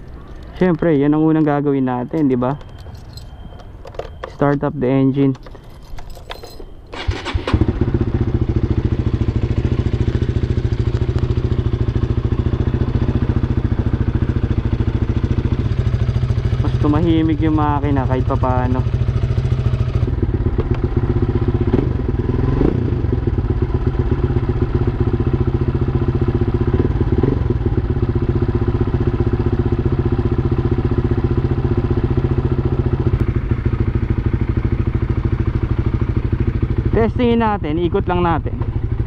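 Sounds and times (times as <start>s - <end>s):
motorcycle engine idling: 5.8s - 39.0s.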